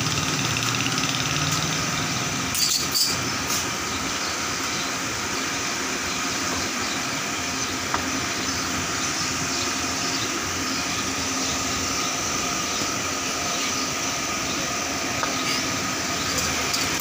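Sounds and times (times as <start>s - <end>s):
machine drone with hum: 0.0s - 17.0s.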